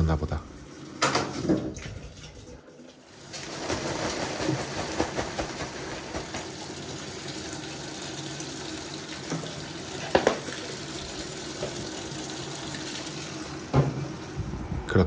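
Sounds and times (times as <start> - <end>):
washing machine filling with water: 0.0 - 15.0.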